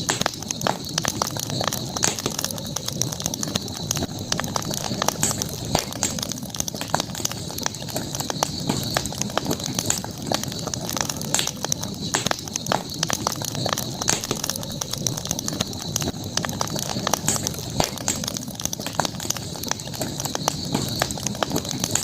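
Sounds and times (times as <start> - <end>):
campfire snaps and pops: 0.0 - 22.0
low noise of flames: 0.0 - 22.0.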